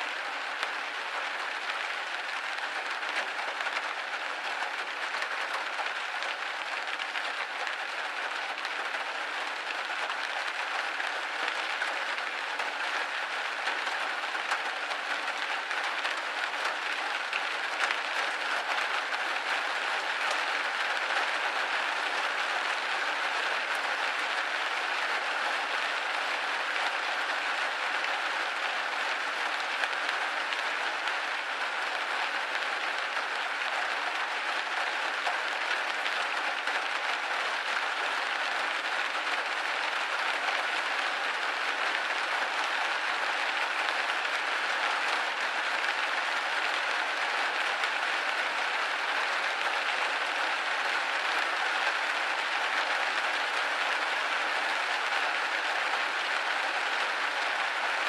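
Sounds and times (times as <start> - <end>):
rain hitting a window pane: 0.0 - 58.0.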